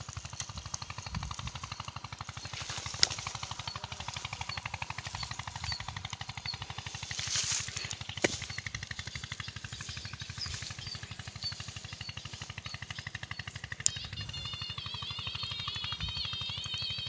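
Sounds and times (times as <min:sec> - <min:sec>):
small engine running: 0:00.0 - 0:17.0
faint chirps: 0:00.9 - 0:17.0.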